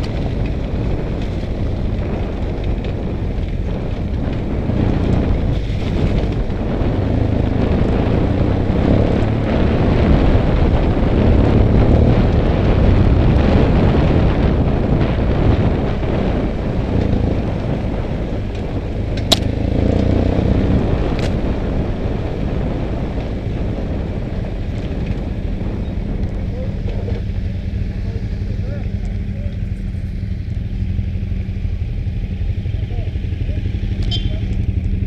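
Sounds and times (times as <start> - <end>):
motorcycle engine running: 0.0 - 35.0
wind noise on microphone: 0.0 - 35.0.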